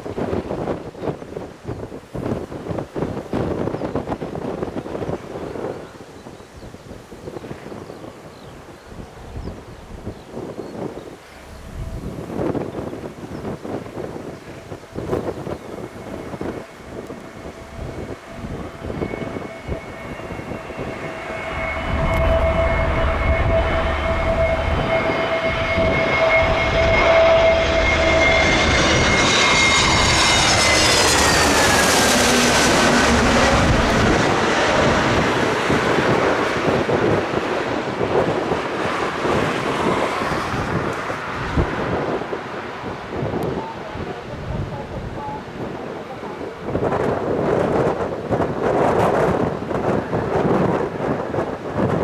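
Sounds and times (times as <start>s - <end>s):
jet airliner passing overhead: 0.0s - 52.0s.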